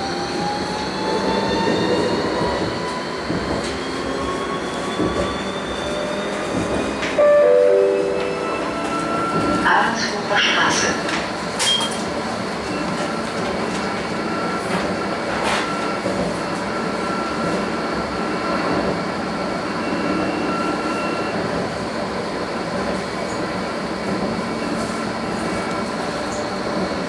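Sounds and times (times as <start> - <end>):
tram interior rumble and hiss: 0.0 - 27.0.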